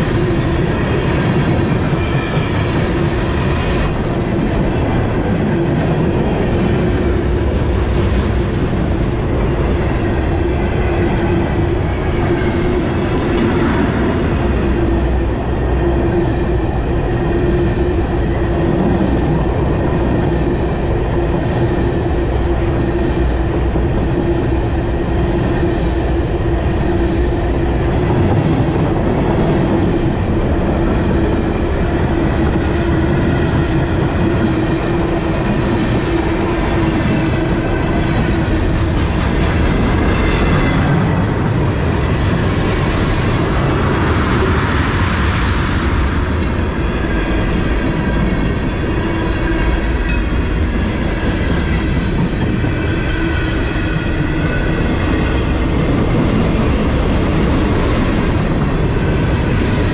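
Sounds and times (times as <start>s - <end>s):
freight train wheels clacking: 0.0s - 26.3s, 26.9s - 59.9s.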